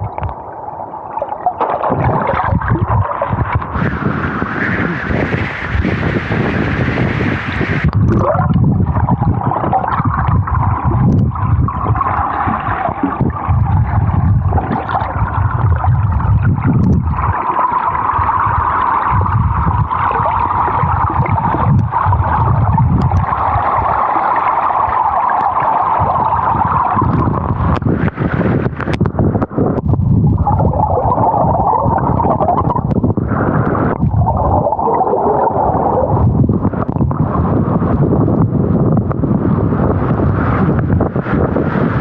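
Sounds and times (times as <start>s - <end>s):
underwater churning water gurgle: 0.0s - 42.0s.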